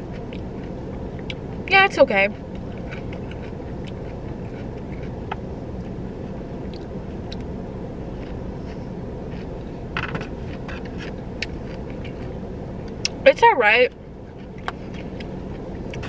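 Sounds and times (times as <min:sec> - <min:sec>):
person chewing coleslaw: 0:00.0 - 0:01.6, 0:02.4 - 0:07.5, 0:08.1 - 0:13.2, 0:14.1 - 0:16.0
low hum inside car: 0:00.0 - 0:16.0.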